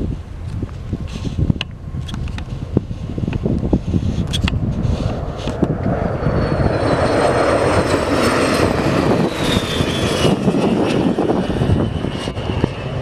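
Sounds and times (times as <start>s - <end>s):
high jet whine: 0.0s - 13.0s
jets flying past: 1.2s - 13.0s.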